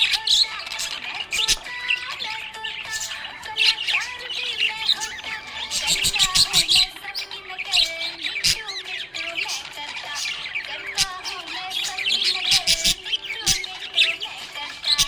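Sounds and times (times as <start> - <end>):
budgerigars chirping and warbling: 0.0 - 15.0.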